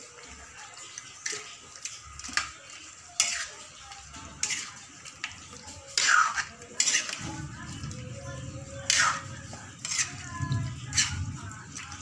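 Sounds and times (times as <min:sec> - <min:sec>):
faint frying sizzle: 0:00.0 - 0:12.0
metal spatula scraping wok: 0:01.2 - 0:12.0.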